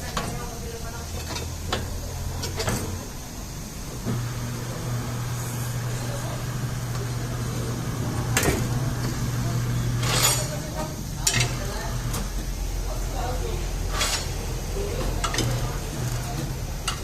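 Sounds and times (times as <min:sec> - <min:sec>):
motor humming: 0:01.6 - 0:17.0.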